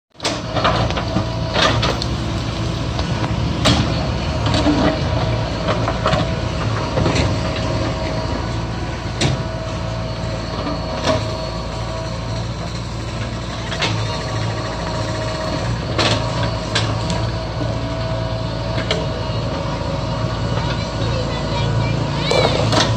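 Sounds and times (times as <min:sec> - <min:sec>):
diesel engine running under load: 0:00.2 - 0:22.9.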